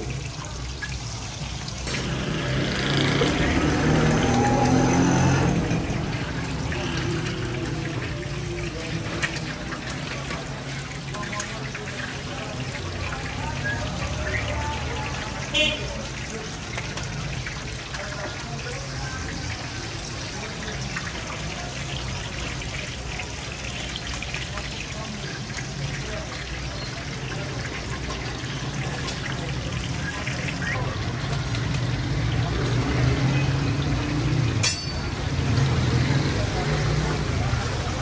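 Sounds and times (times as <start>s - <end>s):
kebabs sizzling in hot fat: 0.0s - 38.0s.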